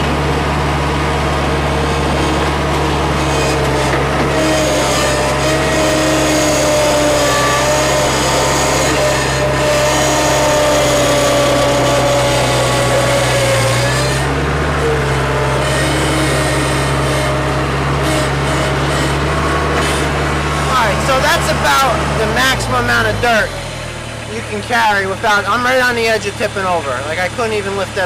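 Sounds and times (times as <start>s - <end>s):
hydraulics whine: 0.0s - 28.0s
skid steer engine under load: 0.0s - 28.0s.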